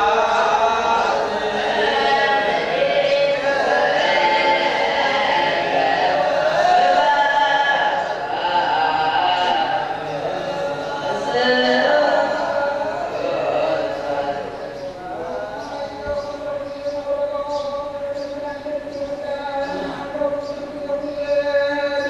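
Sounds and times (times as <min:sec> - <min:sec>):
group singing a chant: 0:00.0 - 0:17.6, 0:18.2 - 0:22.0.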